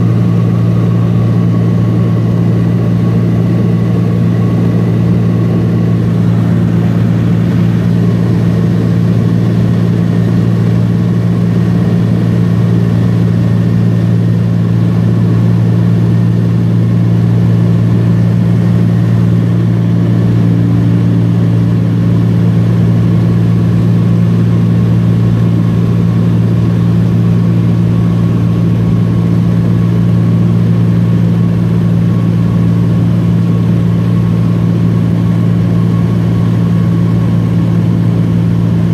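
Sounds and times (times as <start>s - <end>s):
small plane engine droning: 0.0s - 38.9s.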